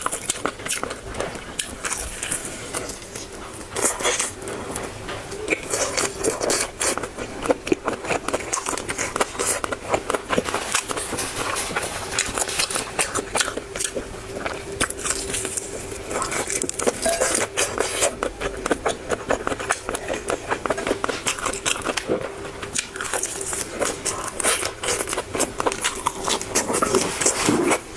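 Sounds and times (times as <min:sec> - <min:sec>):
faint steady hum: 0:00.0 - 0:27.9
person chewing and biting food: 0:00.0 - 0:27.9.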